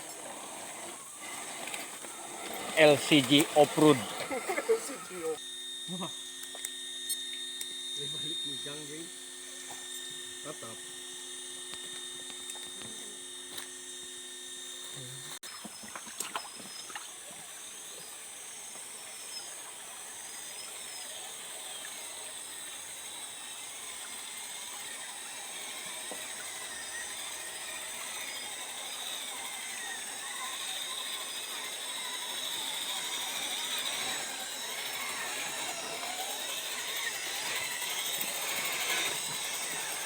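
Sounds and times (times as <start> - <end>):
electric motor and gears whining: 0.0 - 40.0.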